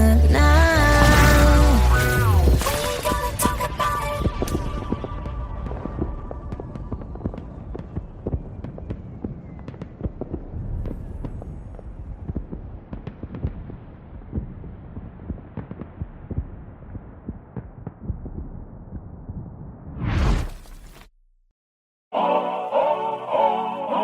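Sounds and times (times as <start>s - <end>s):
crackling pops and sharp cracks: 1.2s - 21.1s.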